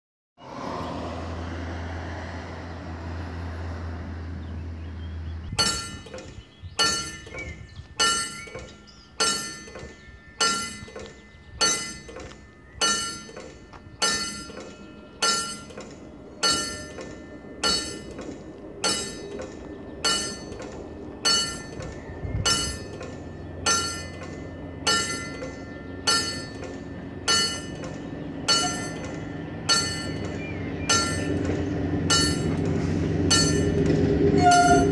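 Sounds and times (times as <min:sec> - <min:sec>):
level crossing warning bell: 0:05.6 - 0:34.9.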